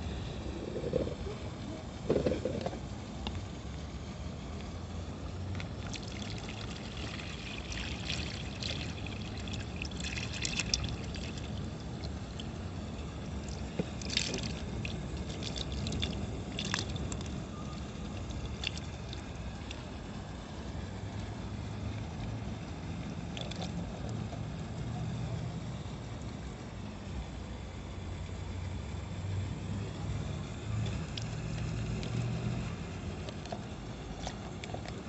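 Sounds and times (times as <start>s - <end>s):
low background rumble: 0.0s - 35.0s
water trickling and splashing: 0.0s - 35.0s.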